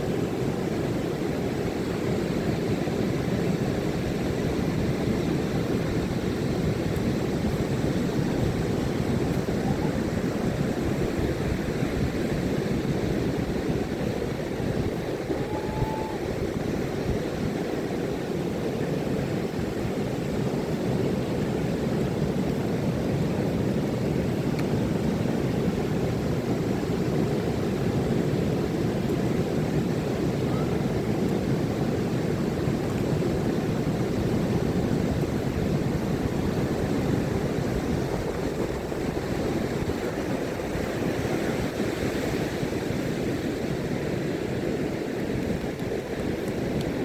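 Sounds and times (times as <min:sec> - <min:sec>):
ocean waves breaking on beach: 0:00.0 - 0:47.0.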